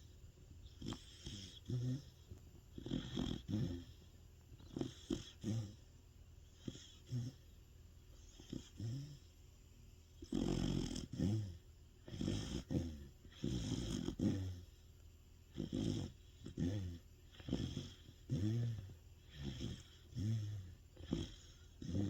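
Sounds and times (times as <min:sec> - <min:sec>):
dog snoring loudly: 0:00.7 - 0:05.8, 0:06.6 - 0:07.5, 0:08.2 - 0:09.3, 0:10.2 - 0:14.8, 0:15.5 - 0:22.0.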